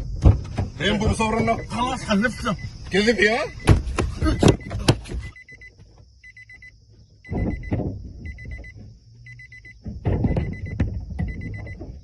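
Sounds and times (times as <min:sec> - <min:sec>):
car warning chime beeps: 0:01.2 - 0:11.8.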